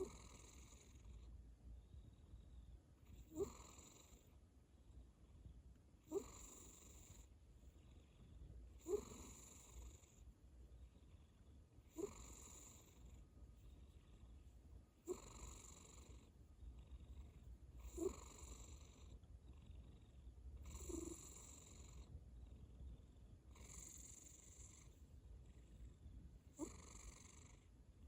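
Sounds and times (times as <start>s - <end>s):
cat snoring softly: 0.0s - 4.4s, 6.0s - 28.0s.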